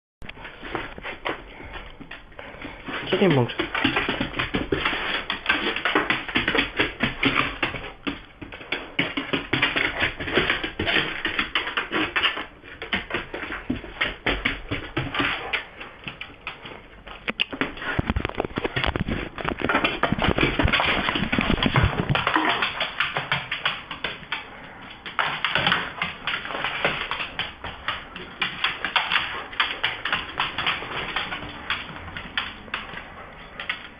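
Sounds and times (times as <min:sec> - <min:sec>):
dog claws scrabbling on hard floor: 0:00.3 - 0:33.9.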